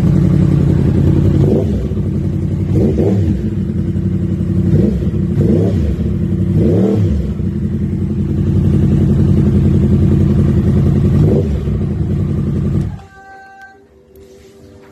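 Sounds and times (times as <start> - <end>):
motorcycle engine idling and revving: 0.0 - 13.2.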